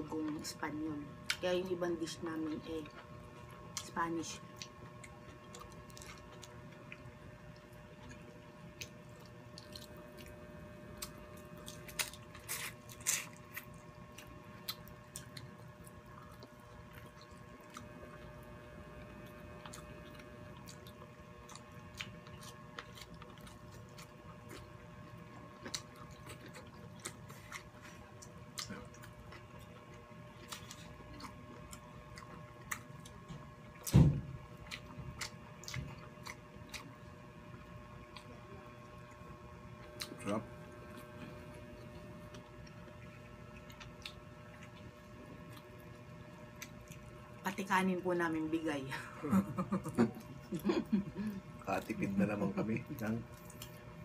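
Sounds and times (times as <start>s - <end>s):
faint steady hum: 0.0s - 54.0s
chewing and mouth smacking: 2.7s - 10.4s, 11.0s - 18.4s, 19.2s - 33.9s, 34.5s - 47.2s, 52.9s - 53.9s.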